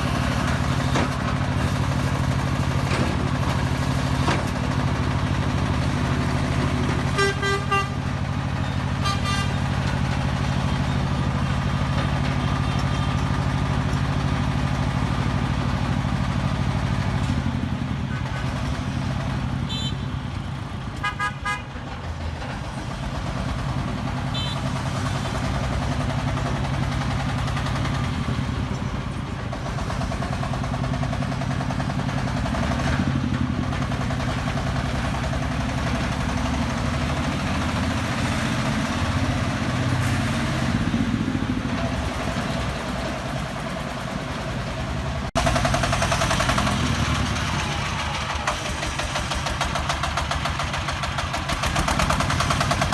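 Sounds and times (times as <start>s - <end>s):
vehicle engine running: 0.0s - 20.8s, 22.6s - 52.9s.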